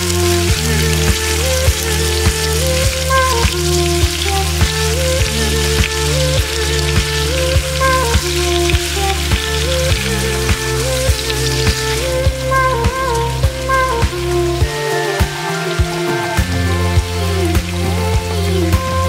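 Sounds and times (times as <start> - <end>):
background music with a beat: 0.0 - 19.0.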